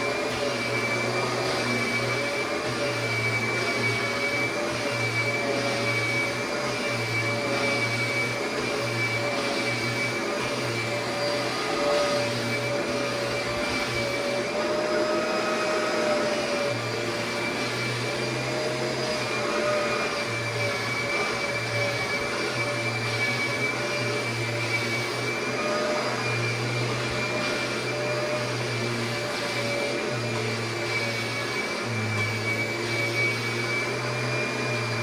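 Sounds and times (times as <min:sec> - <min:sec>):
vacuum cleaner motor whine: 0:00.0 - 0:35.0.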